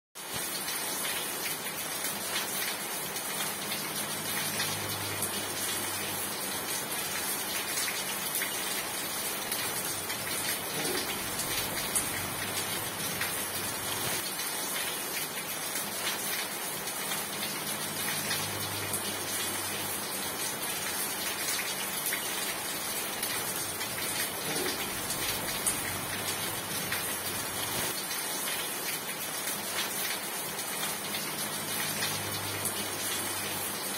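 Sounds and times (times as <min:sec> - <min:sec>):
rain falling: 0:00.2 - 0:33.9.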